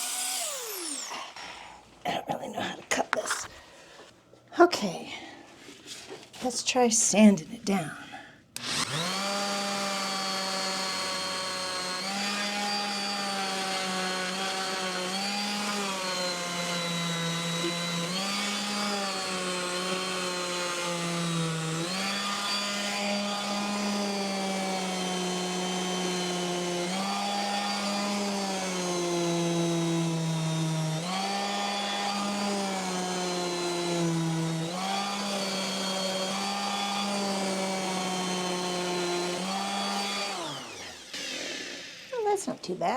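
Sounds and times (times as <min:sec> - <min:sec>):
electric sander on plastic pipe: 0:00.0 - 0:01.7, 0:08.6 - 0:42.9.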